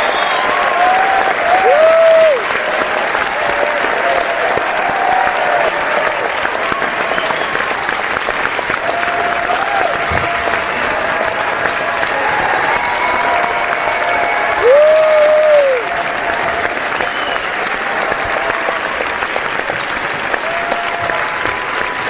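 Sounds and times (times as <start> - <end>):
crowd applauding: 0.0 - 22.0
crowd calling out: 0.0 - 22.0.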